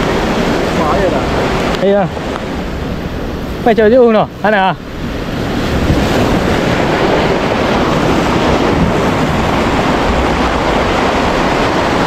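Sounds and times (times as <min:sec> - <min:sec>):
waves breaking against rocks: 0:00.0 - 0:12.0
wind buffeting microphone: 0:00.0 - 0:12.0.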